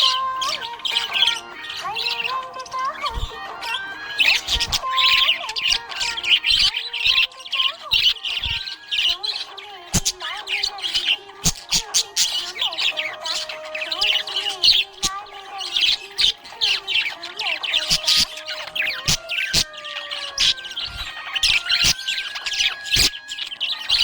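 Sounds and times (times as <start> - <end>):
budgerigar chirping and squawking: 0.0 - 24.0.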